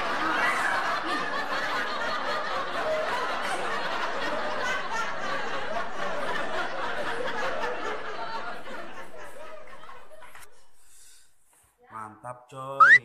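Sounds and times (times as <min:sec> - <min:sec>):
crowd laughing: 0:00.0 - 0:10.5.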